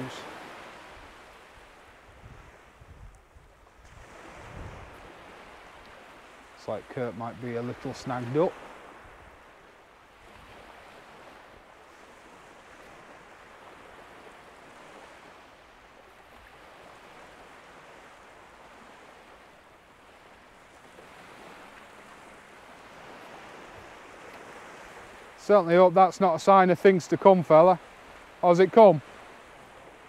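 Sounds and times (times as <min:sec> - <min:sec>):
gentle surf washing onto beach: 0:00.0 - 0:30.0.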